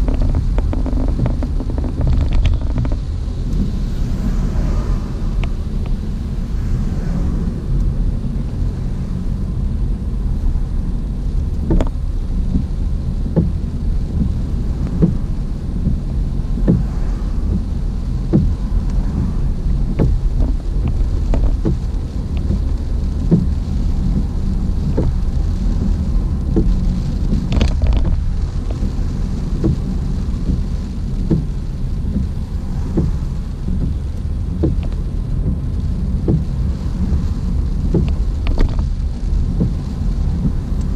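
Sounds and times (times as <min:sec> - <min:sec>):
car road and engine rumble: 0:00.0 - 0:40.9
rain hissing: 0:00.0 - 0:40.9.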